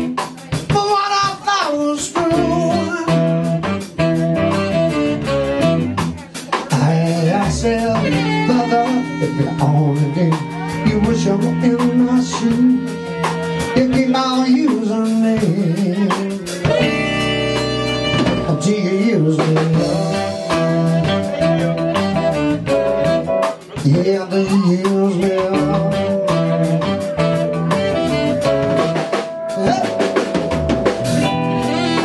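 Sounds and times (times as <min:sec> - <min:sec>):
person singing: 0:00.0 - 0:04.0, 0:05.7 - 0:32.0
drum kit: 0:00.0 - 0:32.0
electric guitar: 0:00.0 - 0:32.0.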